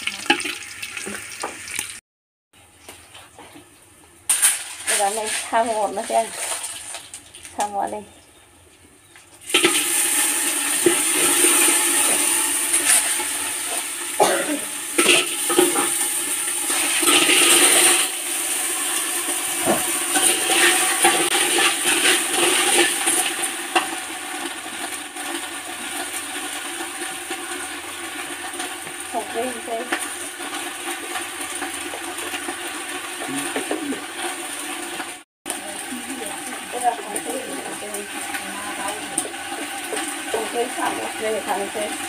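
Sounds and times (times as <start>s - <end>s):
snails sizzling in hot oil: 4.3s - 7.2s, 9.4s - 42.0s.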